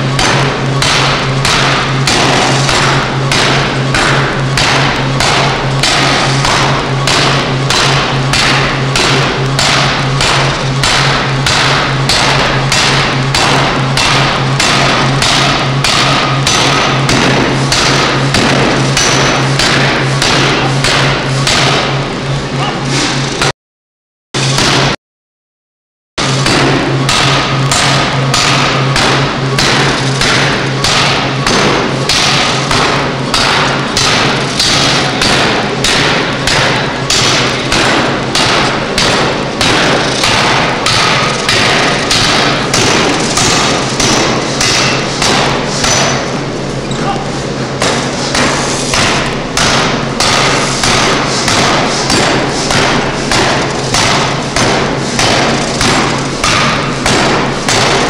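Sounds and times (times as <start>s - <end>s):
forging hammer striking metal: 0.0s - 22.2s, 24.4s - 25.0s, 26.2s - 46.5s, 47.7s - 58.0s.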